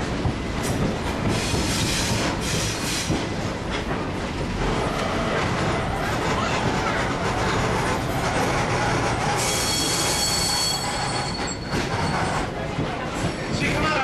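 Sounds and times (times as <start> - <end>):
rail joint clicks: 0.0 - 14.0
train wheels rumbling on rail: 0.0 - 14.0.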